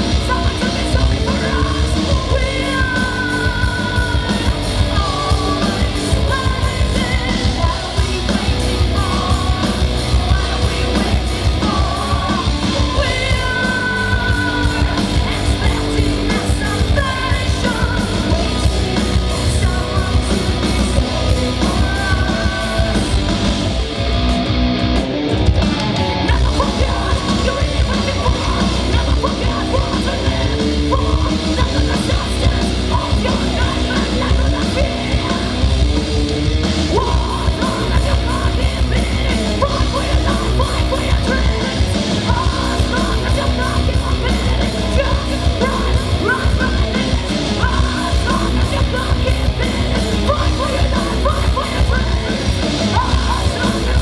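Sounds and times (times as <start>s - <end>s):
woman singing: 0.0s - 23.4s, 26.2s - 36.0s, 36.8s - 54.0s
live heavy metal band: 0.0s - 54.0s.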